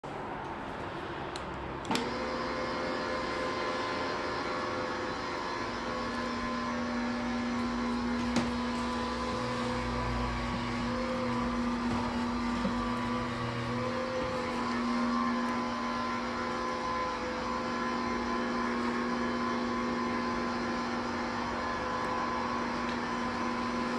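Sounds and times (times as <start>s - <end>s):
mop motor humming: 1.8s - 23.9s.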